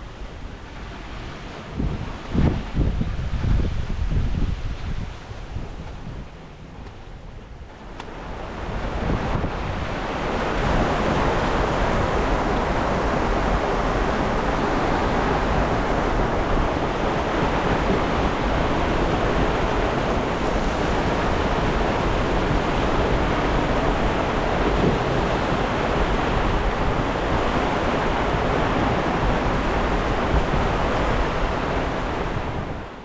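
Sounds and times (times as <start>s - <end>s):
wind: 0.0s - 33.0s
waves rushing: 6.2s - 33.0s.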